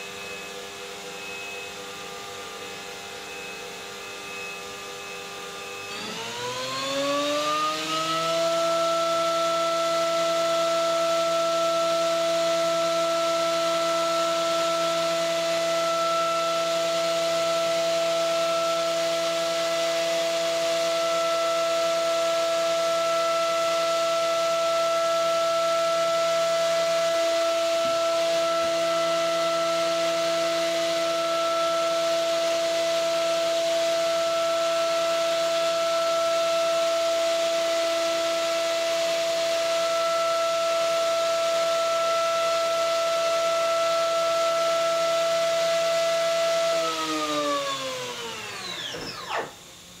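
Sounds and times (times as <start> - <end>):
machine spindle high whine: 0.0 - 50.0.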